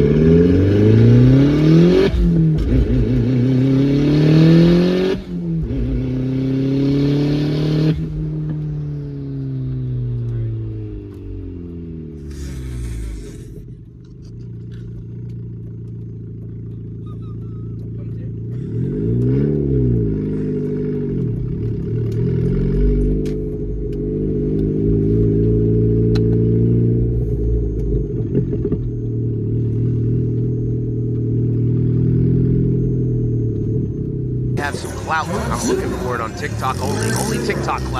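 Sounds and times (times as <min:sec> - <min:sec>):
car engine revving through gears: 0:00.0 - 0:17.0, 0:17.8 - 0:37.9.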